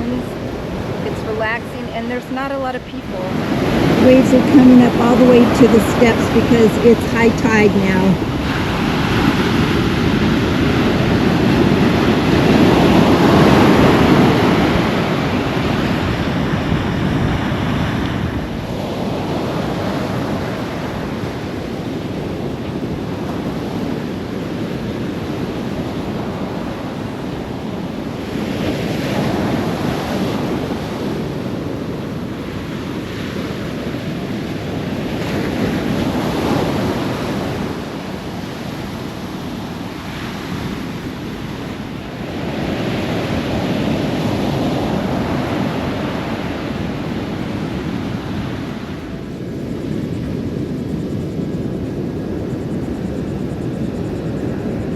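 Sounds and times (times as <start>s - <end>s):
waves breaking on beach: 0.0s - 54.9s.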